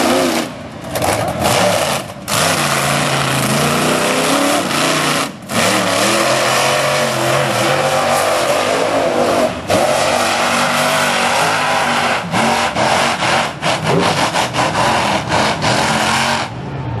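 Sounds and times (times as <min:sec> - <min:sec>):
truck engine revving hard: 0:00.0 - 0:16.7.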